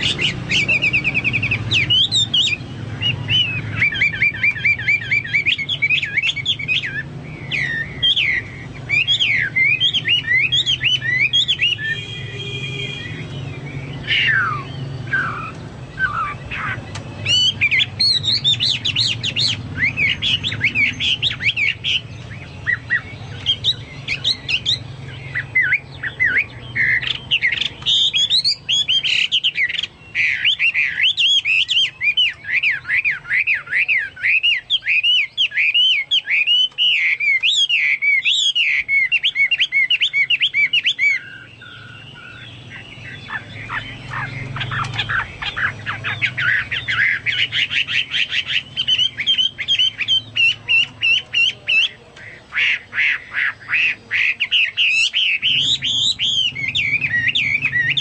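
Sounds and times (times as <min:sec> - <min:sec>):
bird singing whistled phrases: 0:00.0 - 0:52.0, 0:52.6 - 0:58.0.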